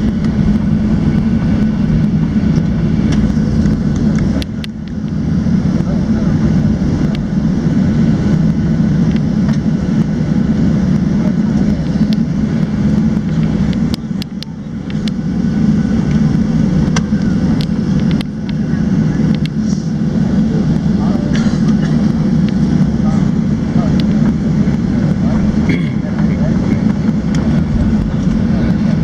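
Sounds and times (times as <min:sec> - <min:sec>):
jet engines low rumble: 0:00.0 - 0:29.0.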